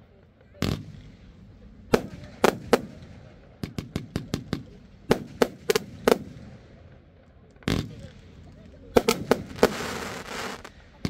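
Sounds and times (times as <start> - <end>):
fireworks bangs and cracks: 0.5 - 11.0.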